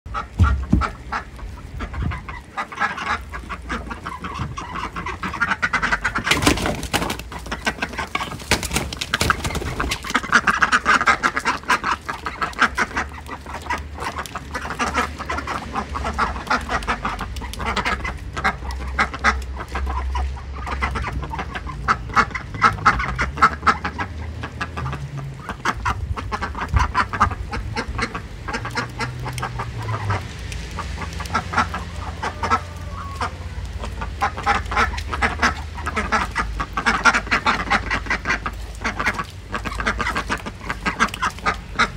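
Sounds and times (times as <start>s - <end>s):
chickens calling: 0.1s - 41.9s
ducks quacking: 0.1s - 41.9s.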